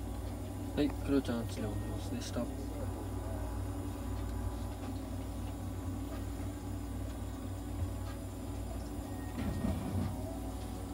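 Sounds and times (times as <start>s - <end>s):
nebulizer mechanical hum: 0.0s - 10.9s.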